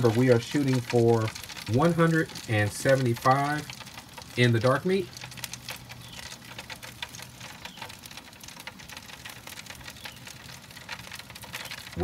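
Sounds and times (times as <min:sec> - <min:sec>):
fat crackling: 0:00.0 - 0:12.0
meat sizzling on a grill: 0:00.0 - 0:12.0.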